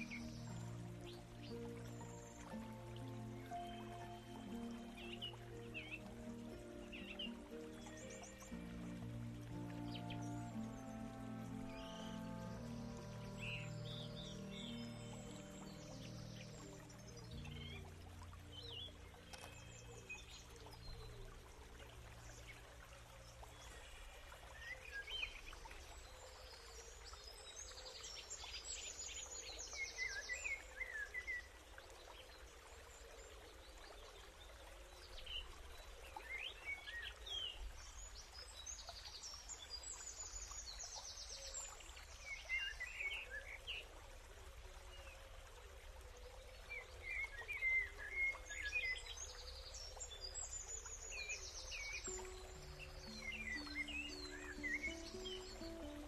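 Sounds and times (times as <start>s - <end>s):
small birds chirping and trilling: 0.0s - 43.6s, 46.5s - 56.0s.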